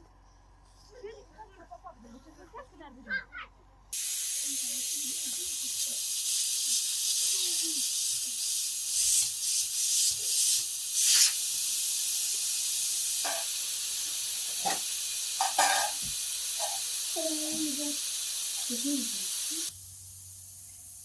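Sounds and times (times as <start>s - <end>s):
rain hiss: 4.0s - 21.0s.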